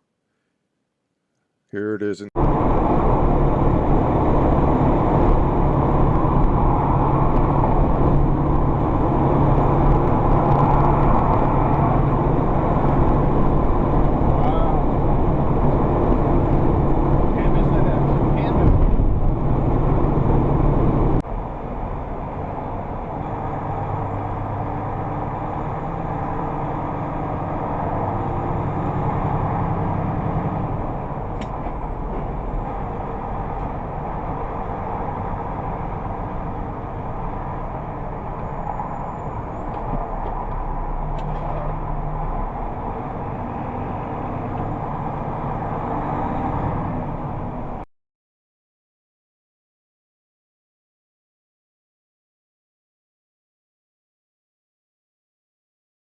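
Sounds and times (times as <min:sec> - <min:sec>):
vehicle engine and road noise: 0:01.8 - 0:47.9.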